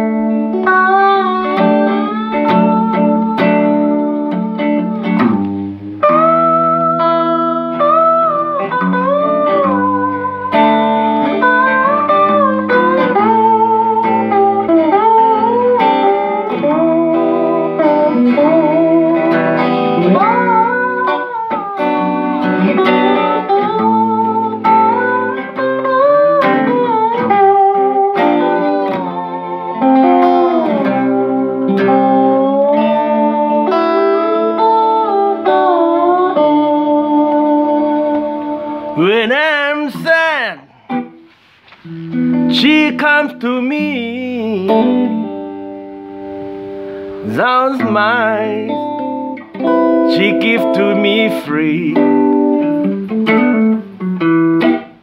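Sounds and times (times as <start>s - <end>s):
electric guitar lead notes: 0.0s - 55.0s
strummed guitar chords: 0.0s - 55.0s.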